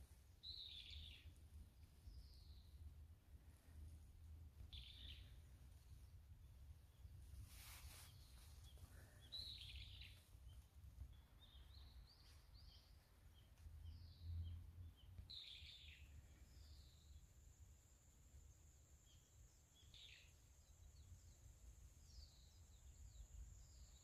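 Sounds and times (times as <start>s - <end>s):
faint birdsong chirps: 0.0s - 24.0s.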